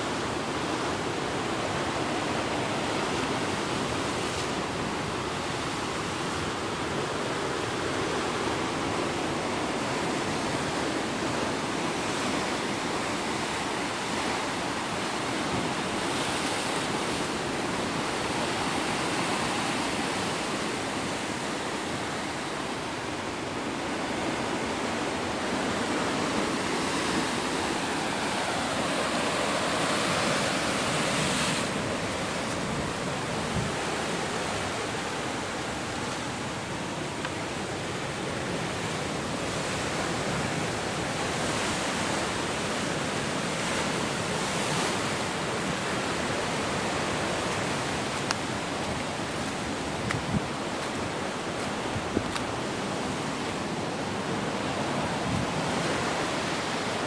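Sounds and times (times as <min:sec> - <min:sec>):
sea surf breaking on rocks: 0:00.0 - 0:57.0.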